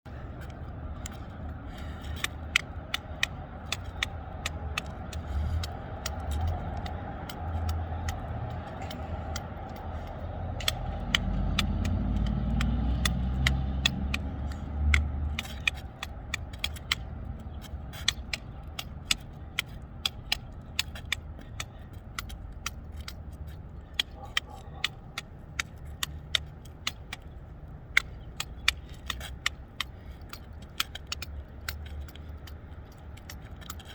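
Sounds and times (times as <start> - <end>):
sticks clicking together: 0.1 - 33.9.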